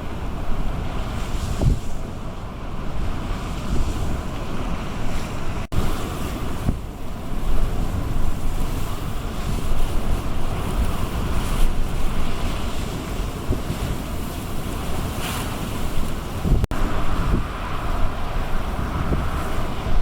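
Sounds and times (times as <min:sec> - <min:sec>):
sea waves breaking on a wall: 0:00.0 - 0:20.0
wind buffeting the microphone: 0:00.0 - 0:20.0.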